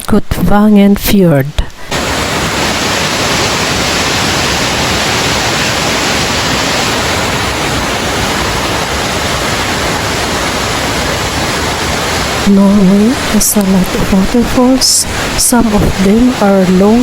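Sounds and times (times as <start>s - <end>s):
waterfall roaring: 1.8s - 17.0s.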